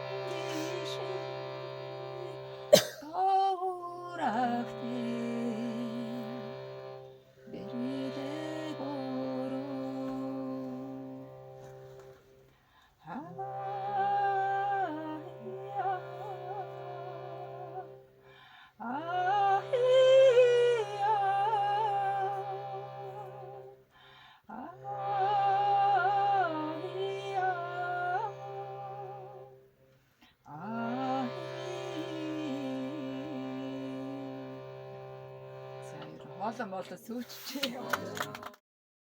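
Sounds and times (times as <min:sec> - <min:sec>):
throat singing drone: 0:00.0 - 0:12.2, 0:13.0 - 0:29.7, 0:30.4 - 0:38.6.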